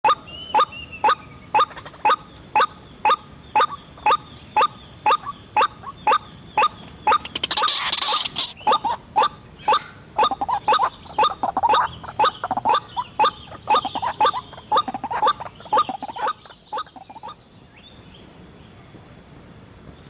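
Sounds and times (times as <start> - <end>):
bird calling sharp notes: 0.0 - 17.4.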